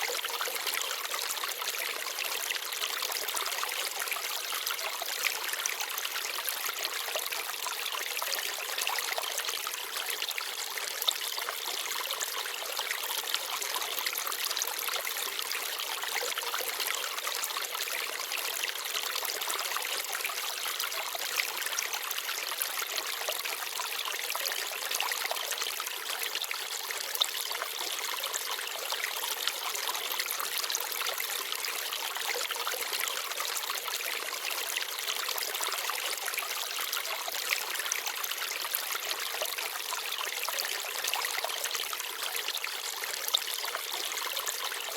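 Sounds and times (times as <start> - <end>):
stream babbling over stones: 0.0 - 44.9.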